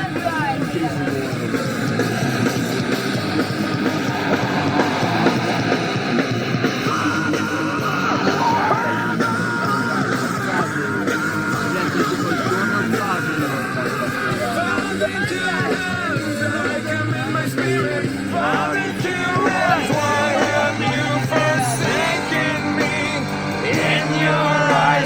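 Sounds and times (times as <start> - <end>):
rock music with singing: 0.0 - 25.0.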